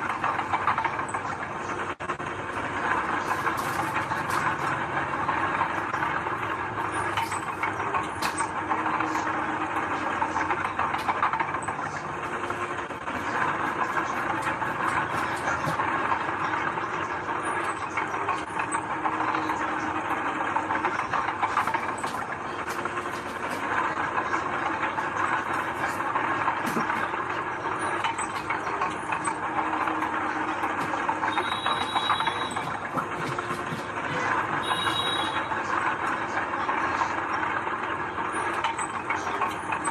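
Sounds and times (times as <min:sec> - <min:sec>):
heavy machinery running: 0:00.0 - 0:39.9
metal track clanking: 0:00.0 - 0:39.9.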